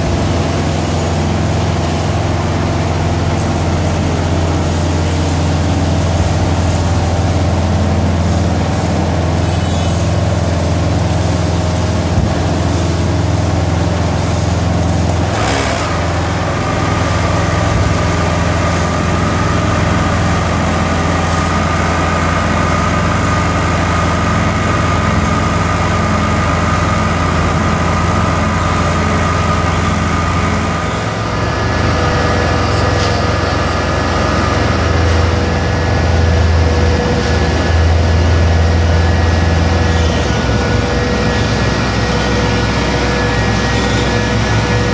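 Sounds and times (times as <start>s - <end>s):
diesel engine hum: 0.0s - 44.9s
thin machine whine: 0.0s - 44.9s.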